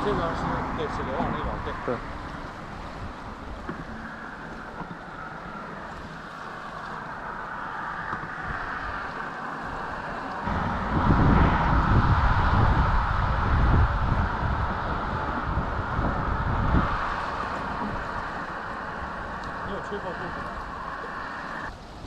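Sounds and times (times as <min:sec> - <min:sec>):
outdoor rushing noise: 0:00.0 - 0:22.0
wind buffeting microphone: 0:00.0 - 0:22.0.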